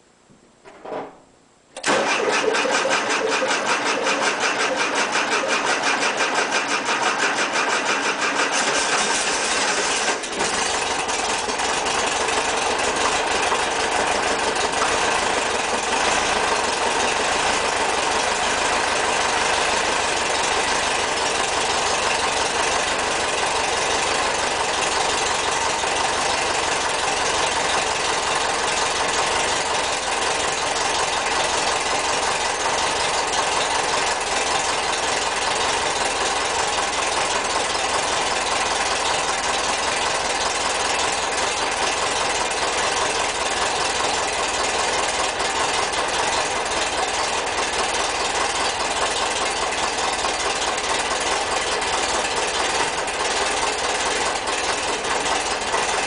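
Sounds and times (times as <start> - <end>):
engine starting and idling: 1.8 - 56.0.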